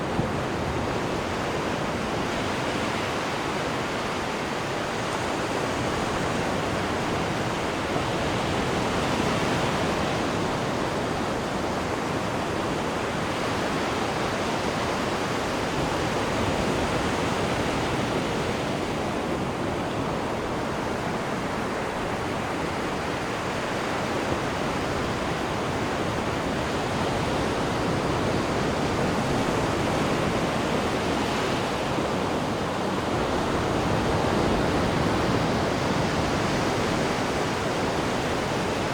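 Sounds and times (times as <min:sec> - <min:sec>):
churning water of ship wake: 0:00.0 - 0:38.9.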